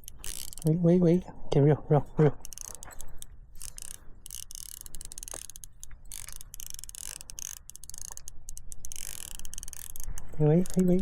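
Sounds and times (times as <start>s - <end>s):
fishing reel clicking: 0.0s - 1.2s, 2.0s - 11.0s.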